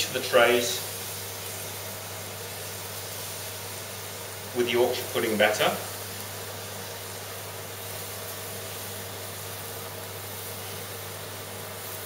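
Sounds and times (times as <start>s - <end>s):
batter hissing in hot fat: 0.0s - 12.0s
oven low hum: 0.0s - 12.0s.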